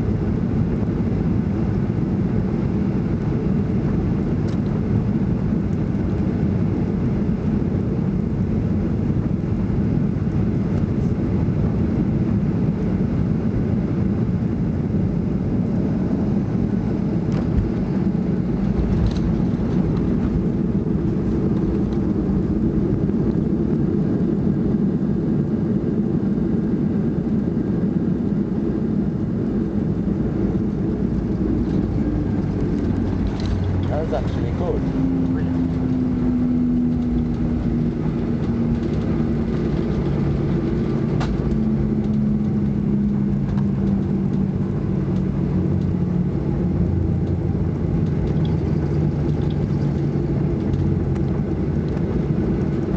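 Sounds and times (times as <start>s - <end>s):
jet engine rumble in cabin: 0.0s - 52.9s.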